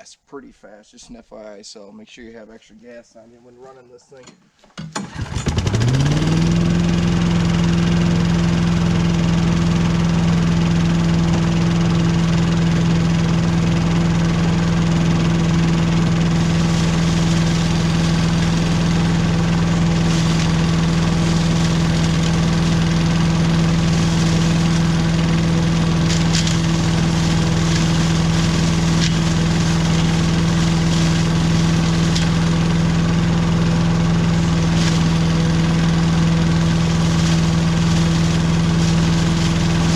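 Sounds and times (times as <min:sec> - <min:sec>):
leaf vacuum engine running: 0:05.0 - 0:39.9.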